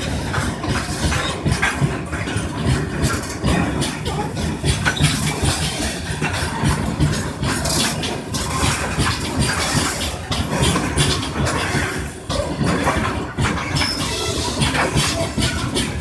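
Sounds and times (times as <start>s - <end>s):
clattering knocks from wheels: 0.0s - 16.0s
freight wagons rumbling on rails: 0.0s - 16.0s.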